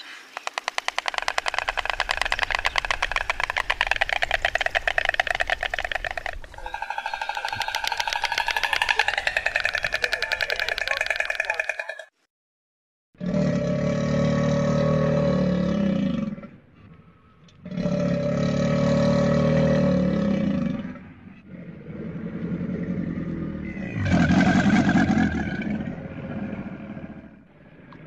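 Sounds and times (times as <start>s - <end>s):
deep rough animal roars: 1.4s - 12.0s, 13.2s - 28.0s.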